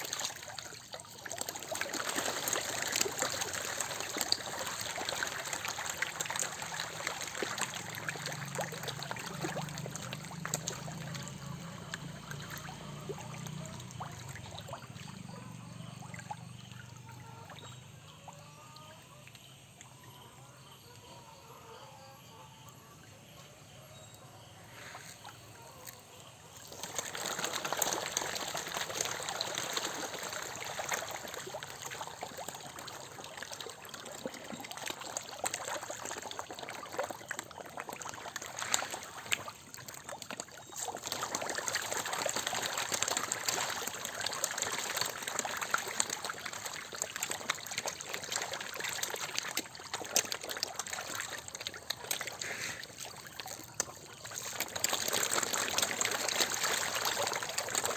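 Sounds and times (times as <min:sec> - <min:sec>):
water trickling and splashing: 0:00.0 - 0:21.2, 0:24.7 - 0:57.9.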